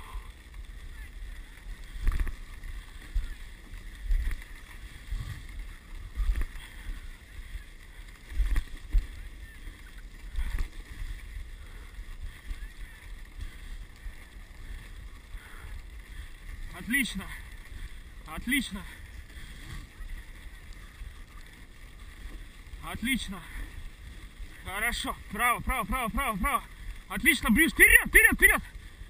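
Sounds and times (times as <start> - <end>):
sled runners hissing on snow: 0.0 - 29.0.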